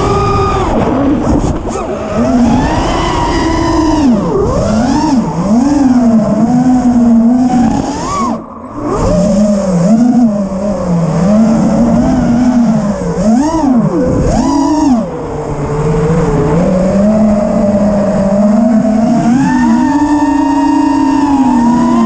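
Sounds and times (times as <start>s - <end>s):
quadcopter motors whining: 0.0s - 22.0s
wind rush: 0.0s - 22.0s.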